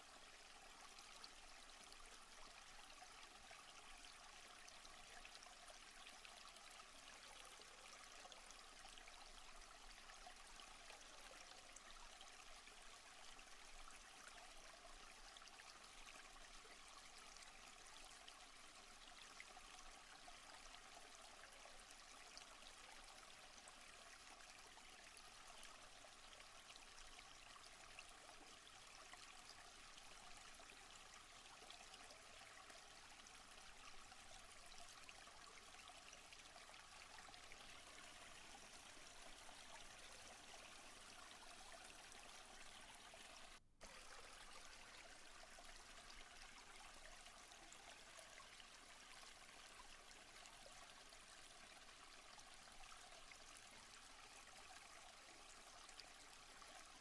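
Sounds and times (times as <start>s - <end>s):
faint flowing water: 0.0s - 57.0s.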